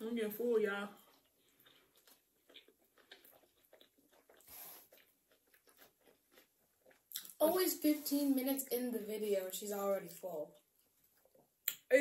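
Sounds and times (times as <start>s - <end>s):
faint chewing sounds: 0.0s - 11.9s.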